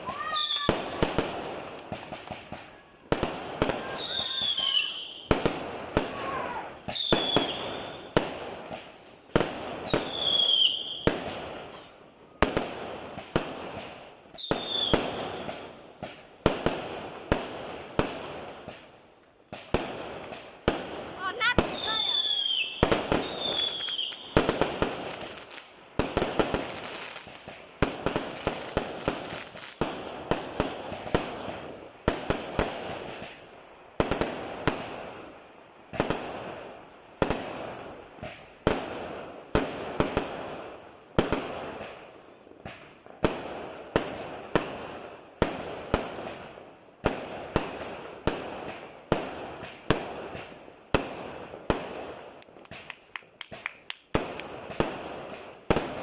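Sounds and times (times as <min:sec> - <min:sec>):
fireworks bangs with crackle: 0:00.0 - 0:56.0.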